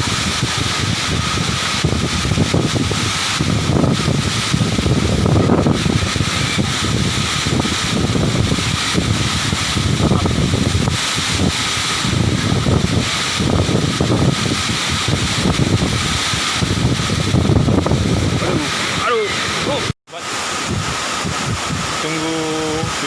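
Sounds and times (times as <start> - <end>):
waterfall roaring: 0.0 - 23.0
wind buffeting microphone: 0.0 - 23.0.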